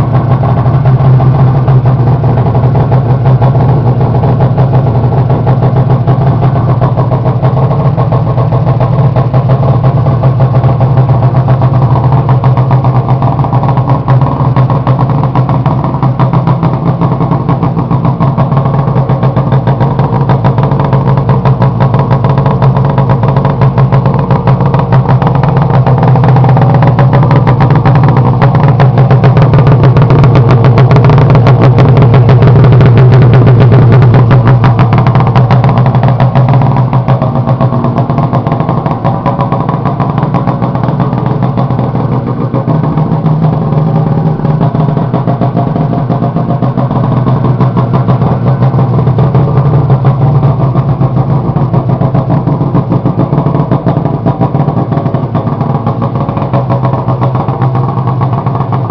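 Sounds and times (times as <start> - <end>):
snowmobile engine idling: 0.0 - 58.9.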